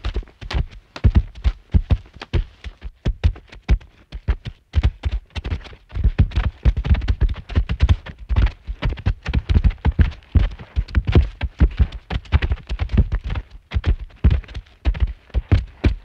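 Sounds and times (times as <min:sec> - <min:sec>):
rapid knocks and thumps: 0:00.0 - 0:16.0.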